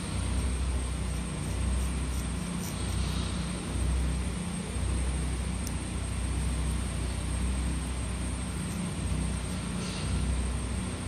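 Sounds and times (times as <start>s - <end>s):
faint high whine: 0.0s - 11.0s
low machinery rumble: 0.0s - 11.0s.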